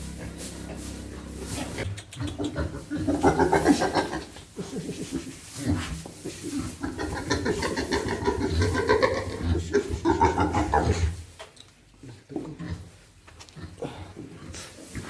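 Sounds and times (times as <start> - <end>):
pigs grunting: 0.0 - 11.3, 12.0 - 15.0.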